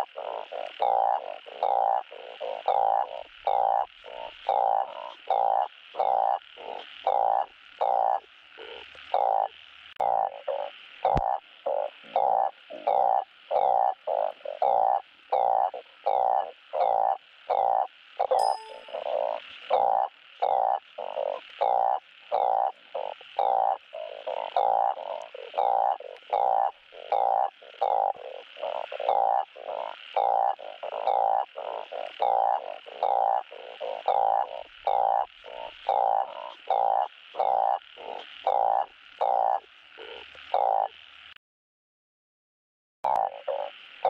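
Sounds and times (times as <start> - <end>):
frogs croaking: 0.0 - 41.4, 43.0 - 44.0.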